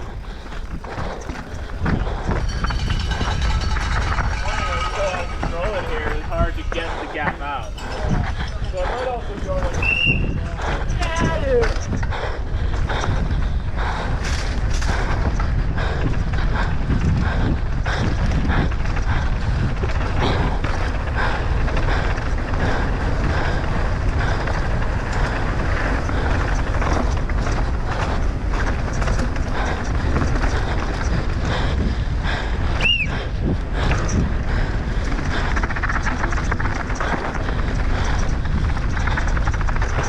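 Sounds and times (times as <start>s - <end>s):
bike rattling over rocks: 0.0s - 12.1s, 14.1s - 40.0s
wind buffeting microphone: 0.0s - 40.0s.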